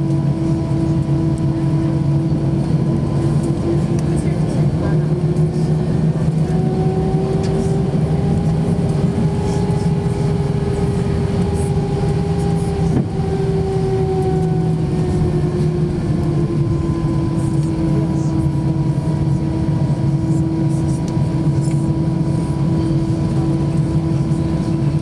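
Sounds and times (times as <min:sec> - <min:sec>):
jet engines humming in cabin: 0:00.0 - 0:25.0.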